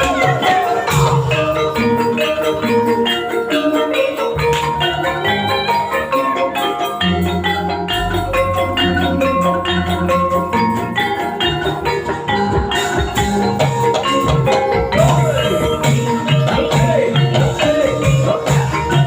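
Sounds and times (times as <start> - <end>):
metal-keyed instruments struck: 0.0 - 19.0
wavering melody line: 0.0 - 19.0.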